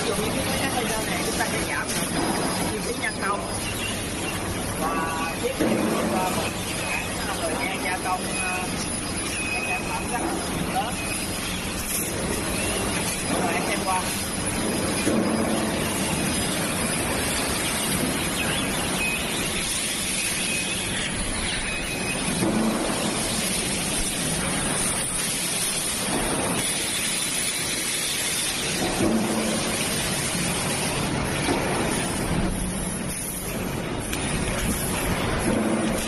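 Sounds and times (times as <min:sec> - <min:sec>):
laser cutting machine hissing: 0:00.0 - 0:36.0.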